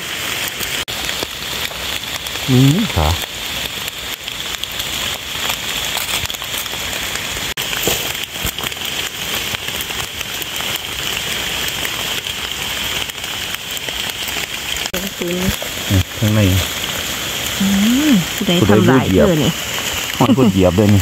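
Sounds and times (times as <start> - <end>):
rain on forest leaves: 0.0 - 21.0.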